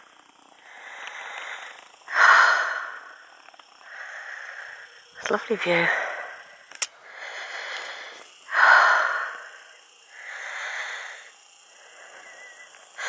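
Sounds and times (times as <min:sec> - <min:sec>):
person breathing: 0:00.6 - 0:05.1, 0:05.8 - 0:13.0.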